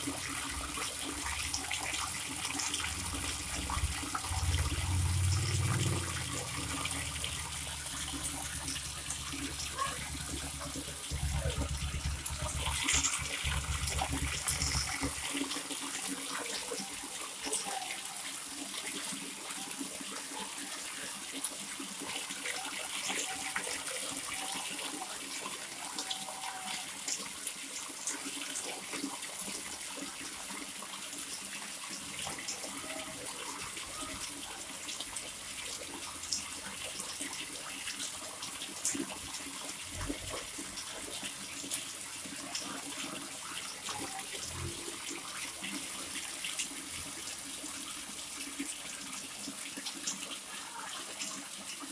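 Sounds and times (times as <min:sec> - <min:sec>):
water pouring from spout: 0:00.0 - 0:51.9.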